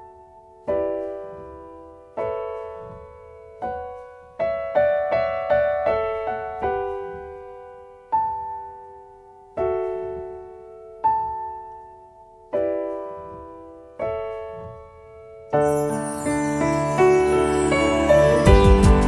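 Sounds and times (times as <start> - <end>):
solo piano music: 0.0 - 19.0.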